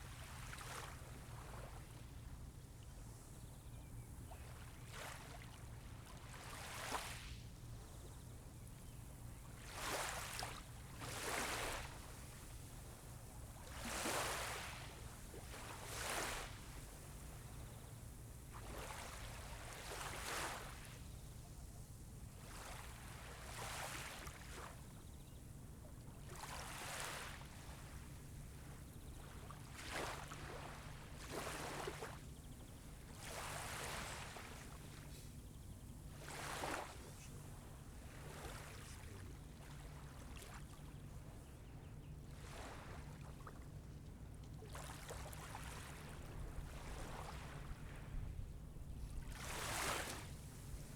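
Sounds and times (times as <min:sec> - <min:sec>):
small waves lapping on beach: 0:00.0 - 0:50.9.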